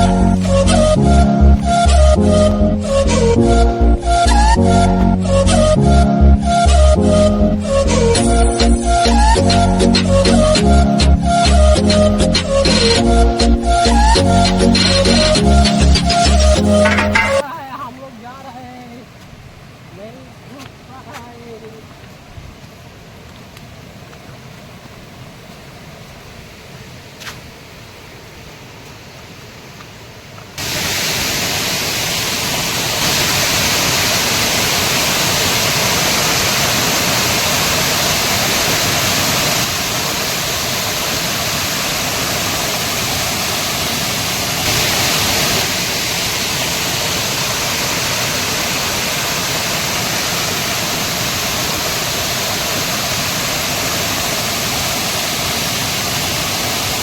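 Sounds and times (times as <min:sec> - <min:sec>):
waterfall rushing: 0:00.0 - 0:22.2, 0:30.6 - 0:57.0
low hiss: 0:07.0 - 0:57.0.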